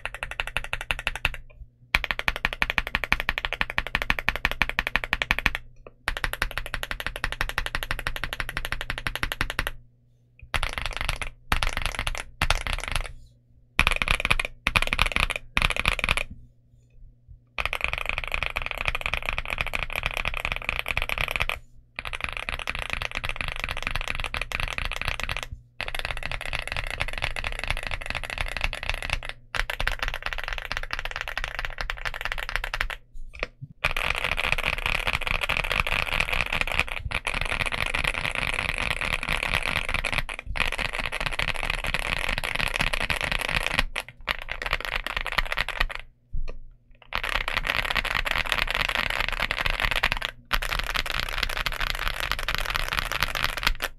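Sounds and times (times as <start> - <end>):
mechanical keyboard typing: 0.0 - 9.8, 10.5 - 13.1, 13.8 - 16.3, 17.6 - 46.1, 47.0 - 53.9.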